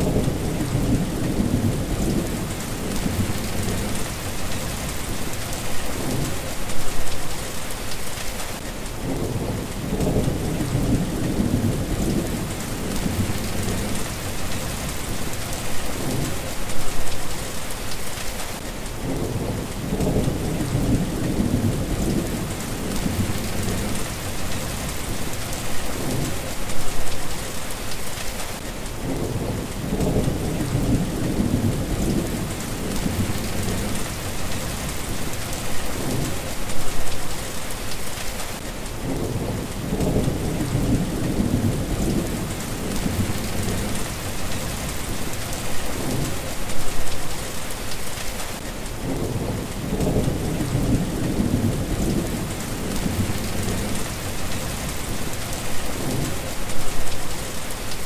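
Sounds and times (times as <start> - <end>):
low thunder rumbling: 0.0 - 7.0, 9.0 - 17.1, 19.0 - 27.1, 29.0 - 37.2, 39.0 - 47.0, 49.0 - 57.2
steady rain: 0.0 - 58.0.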